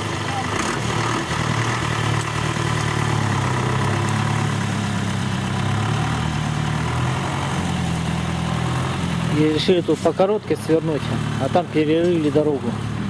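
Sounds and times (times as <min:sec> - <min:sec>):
truck engine running at low revs: 0:00.0 - 0:13.0.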